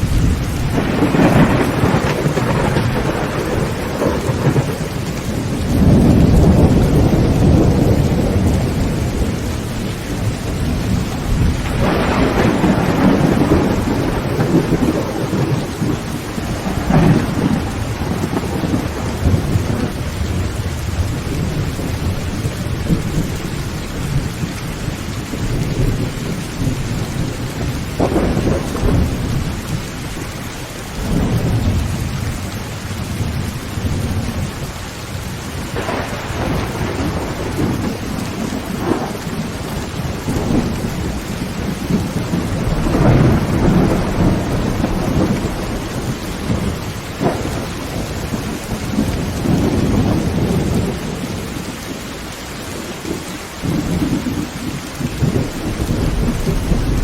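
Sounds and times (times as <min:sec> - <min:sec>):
thunder cracks: 0:00.0 - 0:24.3, 0:25.4 - 0:29.8, 0:35.6 - 0:51.6, 0:53.1 - 0:57.0
heavy rain on a tin roof: 0:00.0 - 0:57.0
thunder rumbling: 0:00.0 - 0:57.0.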